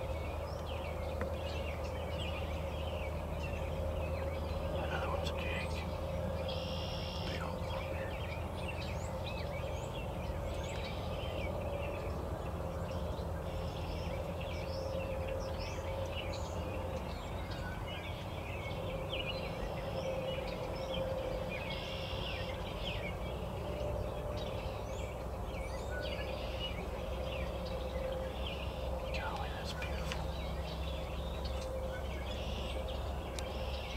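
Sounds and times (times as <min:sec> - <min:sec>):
low rumble of wind: 0:00.0 - 0:33.9
songbirds chirping: 0:00.0 - 0:33.9.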